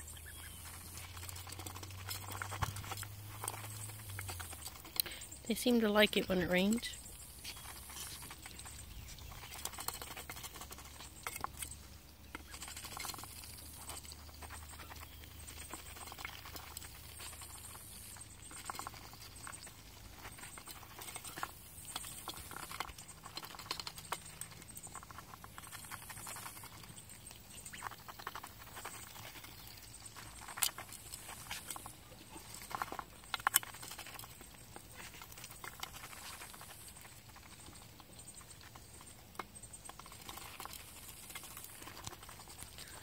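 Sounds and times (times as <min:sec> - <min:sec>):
ducks pecking pellets in metal bowl: 0:00.0 - 0:43.0.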